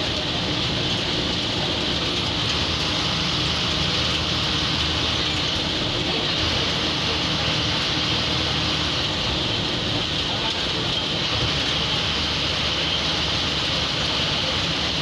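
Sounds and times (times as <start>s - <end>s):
bus diesel engine running: 0.0s - 15.0s
road and wind noise hiss: 0.0s - 15.0s.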